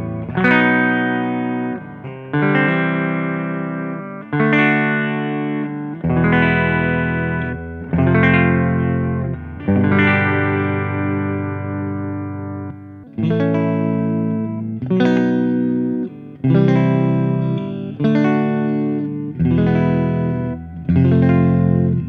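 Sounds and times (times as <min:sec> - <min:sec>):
electric guitar chords ringing: 0:00.0 - 0:22.0.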